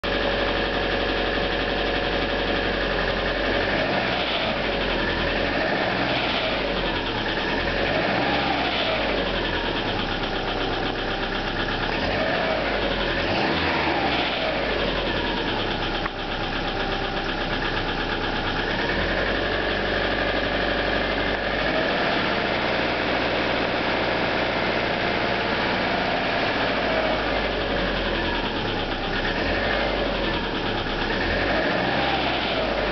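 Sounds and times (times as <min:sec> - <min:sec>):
engine with knocking rattle: 0:00.0 - 0:32.9.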